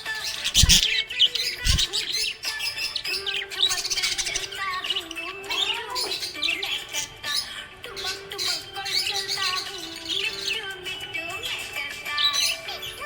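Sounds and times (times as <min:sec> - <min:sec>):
parrots chirping: 0:00.0 - 0:13.0.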